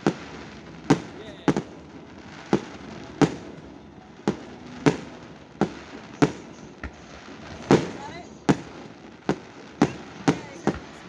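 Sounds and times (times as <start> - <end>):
firework bangs echoing: 0.0 - 11.0.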